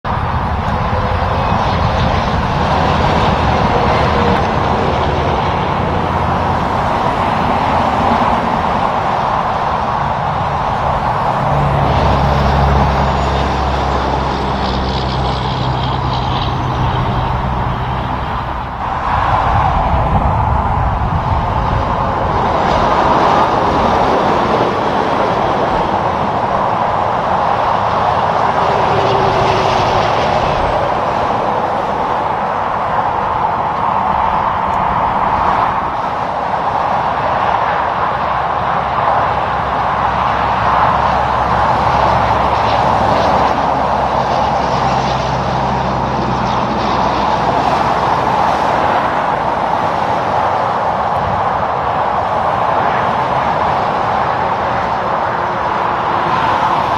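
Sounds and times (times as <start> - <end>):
highway traffic tyre roar: 0.0 - 56.9
low engine drone: 0.0 - 56.9.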